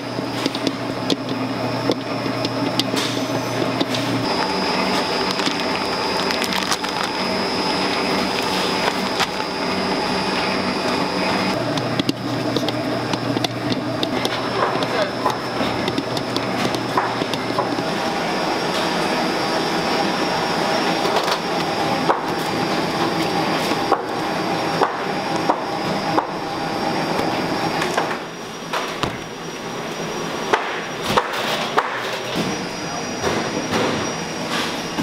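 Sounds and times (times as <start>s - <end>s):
kitchen machinery hum: 0.0s - 35.0s.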